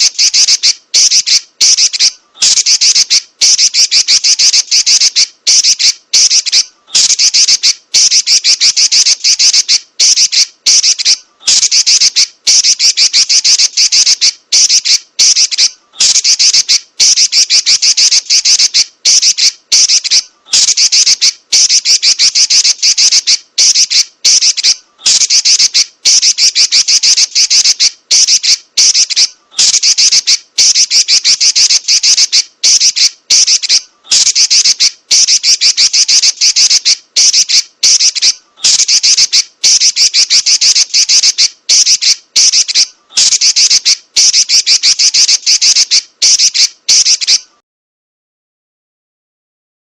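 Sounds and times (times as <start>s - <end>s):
bird chattering trill: 0.0s - 47.6s.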